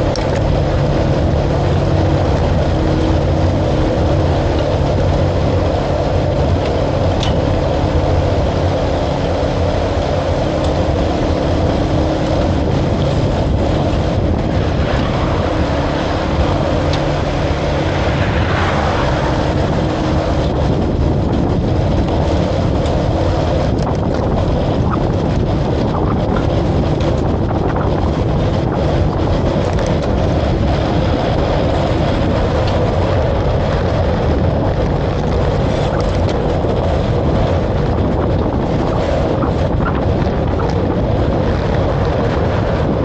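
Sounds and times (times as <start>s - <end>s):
rumble of movement: 0.0s - 43.0s
wind buffeting microphone: 0.0s - 43.0s.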